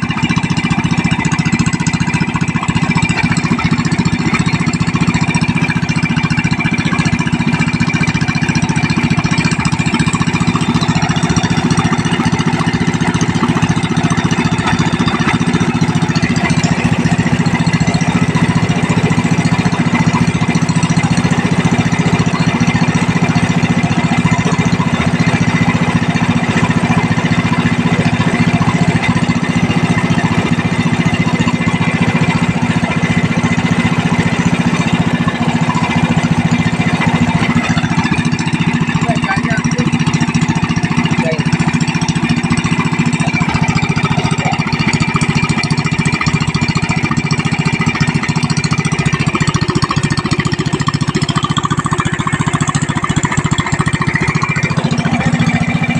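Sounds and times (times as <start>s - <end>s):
gasoline engine running steadily: 0.0s - 55.9s.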